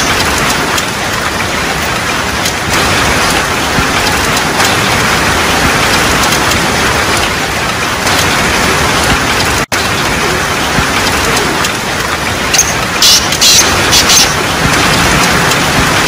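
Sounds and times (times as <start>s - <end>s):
heavy rain on pavement: 0.0s - 16.0s.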